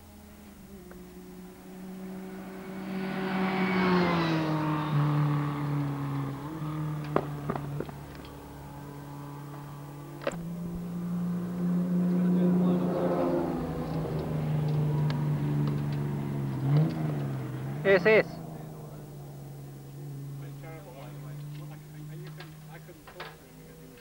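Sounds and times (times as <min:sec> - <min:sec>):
racing car engine running: 0:00.0 - 0:24.0.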